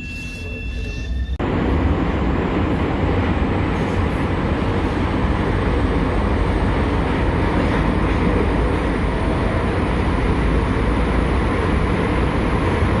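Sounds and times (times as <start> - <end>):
metro train rumbling in tunnel: 0.0 - 13.0.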